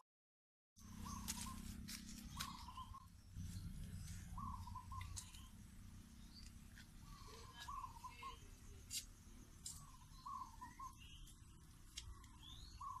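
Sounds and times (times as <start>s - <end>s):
faint bird chirping: 0.8s - 13.0s
steady low rumble: 0.8s - 13.0s.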